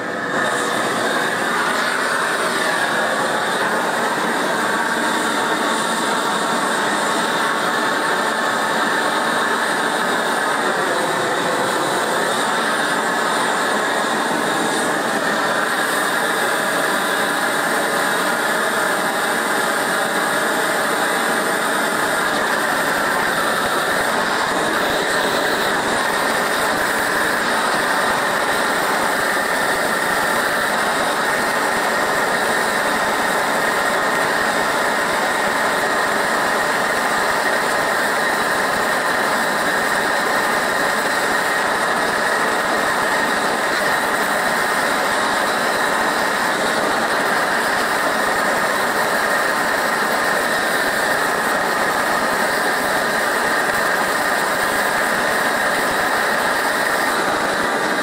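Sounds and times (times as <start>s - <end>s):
blowtorch flame rushing: 0.0s - 58.0s.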